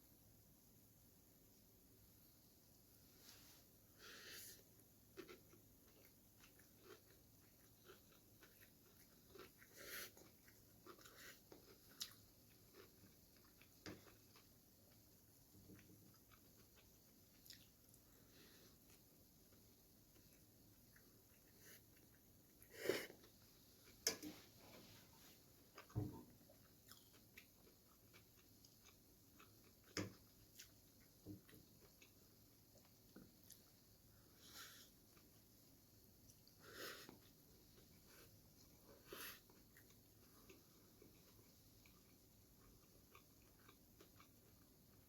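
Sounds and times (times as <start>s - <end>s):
chewing noodles: 4.6s - 35.6s, 36.2s - 45.0s.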